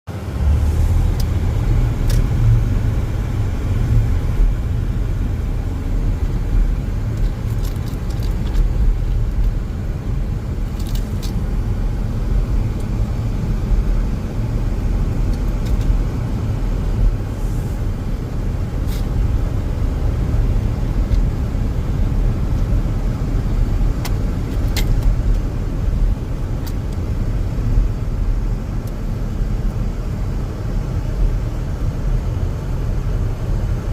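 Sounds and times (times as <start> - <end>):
car engine and road noise: 0.1 - 33.9.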